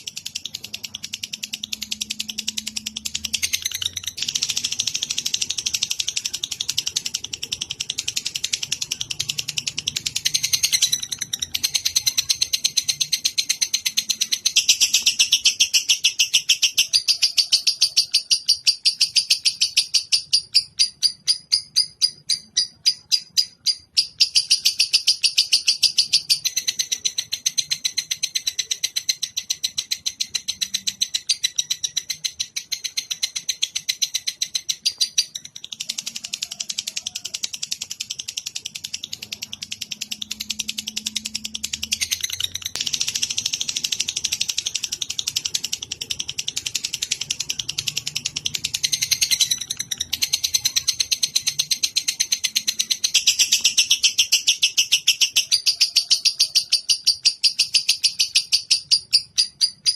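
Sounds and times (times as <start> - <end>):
songbird chattering song: 0.0 - 59.9.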